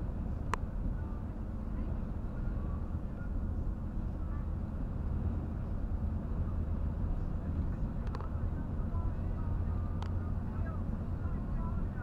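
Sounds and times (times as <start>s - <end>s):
road and engine rumble in vehicle: 0.0s - 12.0s.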